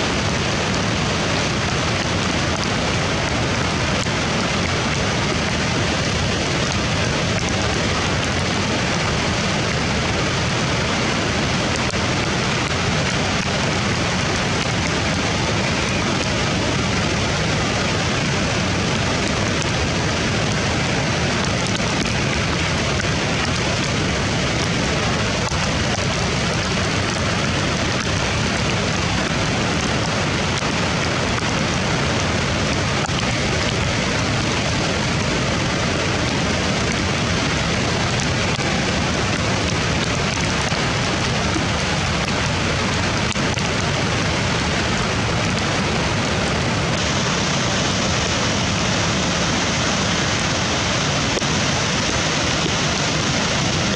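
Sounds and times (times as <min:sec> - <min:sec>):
river rushing through rapids: 0:00.0 - 0:53.9.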